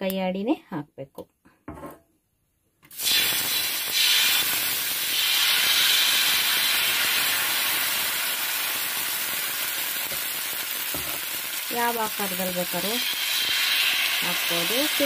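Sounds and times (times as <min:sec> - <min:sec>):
batter sizzling on hot pan: 0:02.9 - 0:15.0.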